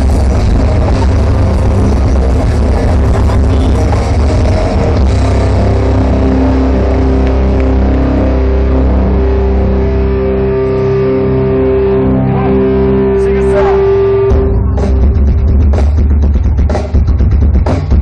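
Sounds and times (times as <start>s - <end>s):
distorted guitars and bass droning: 0.0s - 18.0s.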